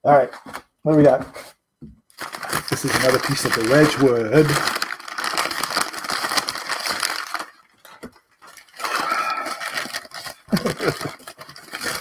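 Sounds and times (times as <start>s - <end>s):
packing wrap crinkling: 2.1s - 12.0s.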